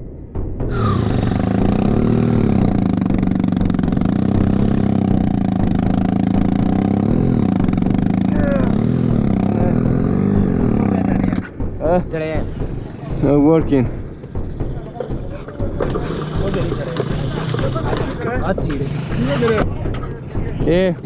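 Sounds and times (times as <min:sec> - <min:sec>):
vehicle engine running: 0:00.6 - 0:21.0.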